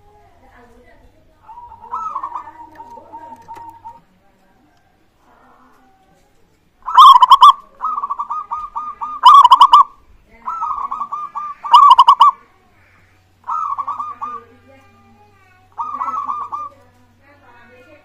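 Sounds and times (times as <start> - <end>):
doves cooing: 0.0 - 15.1, 15.7 - 18.0.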